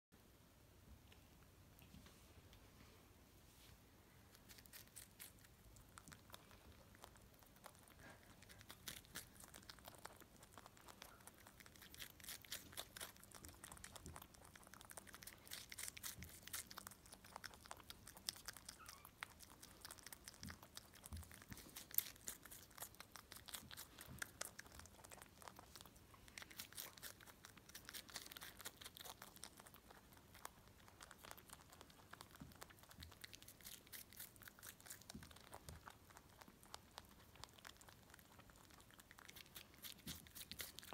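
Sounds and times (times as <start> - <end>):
rabbit chewing: 3.5 - 40.9.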